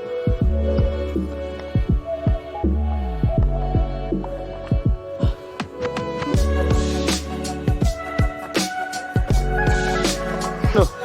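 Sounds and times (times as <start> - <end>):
held synth notes: 0.0 - 11.0
electronic kick drum beats: 0.2 - 11.0.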